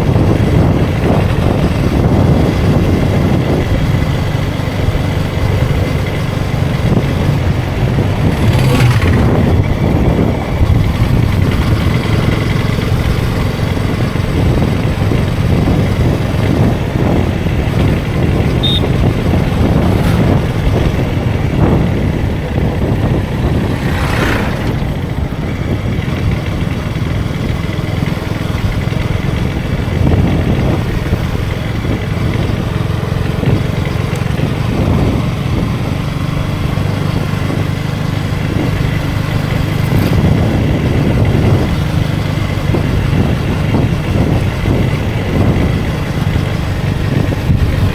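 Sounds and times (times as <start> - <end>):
motorcycle engine running: 0.0 - 47.9
wind and tyre rush: 0.0 - 47.9.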